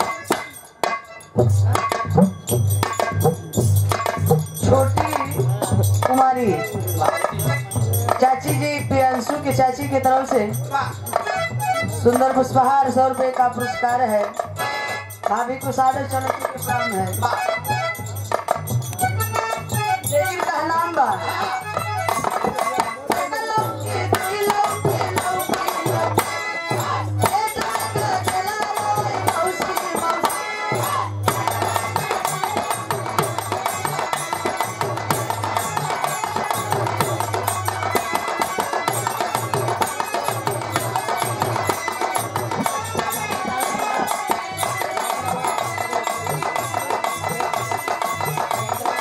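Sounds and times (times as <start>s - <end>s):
hand drum rhythm: 0.0s - 49.0s
harmonium melody: 0.0s - 49.0s.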